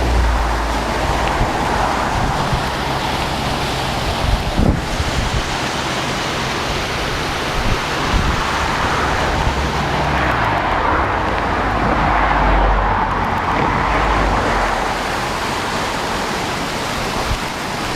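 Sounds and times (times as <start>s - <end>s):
water rushing over waterfall: 0.0s - 17.9s.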